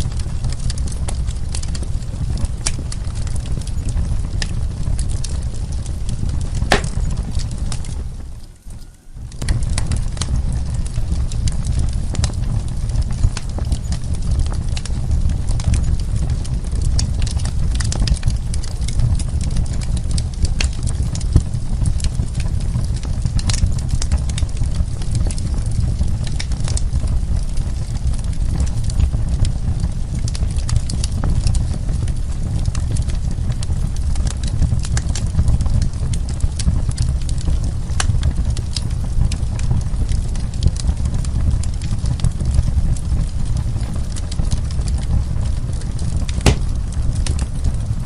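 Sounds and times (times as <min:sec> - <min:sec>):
burning wood crackling and popping: 0:00.0 - 0:48.0.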